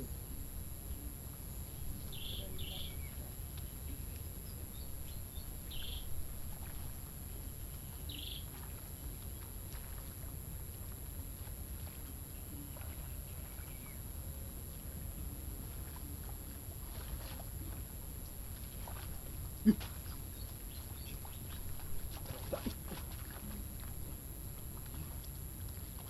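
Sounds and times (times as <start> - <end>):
steady high whine: 0.0 - 26.0.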